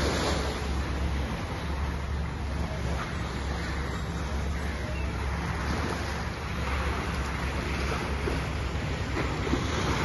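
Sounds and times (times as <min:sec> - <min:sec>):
low steady drone: 0:00.0 - 0:10.0
water washing against shore: 0:00.0 - 0:10.0.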